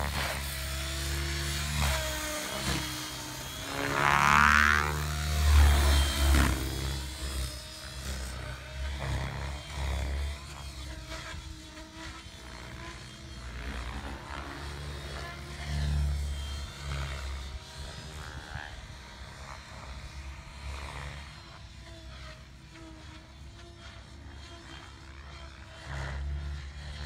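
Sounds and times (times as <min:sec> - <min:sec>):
radio-controlled helicopter flying: 0:00.0 - 0:27.0.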